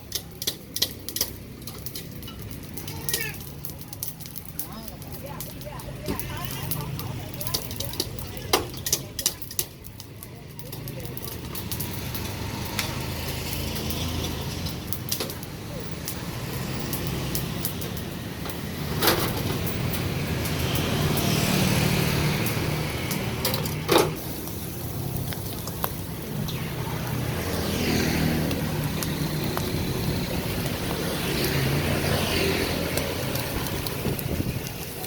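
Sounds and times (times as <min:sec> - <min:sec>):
street traffic: 0:00.0 - 0:35.0.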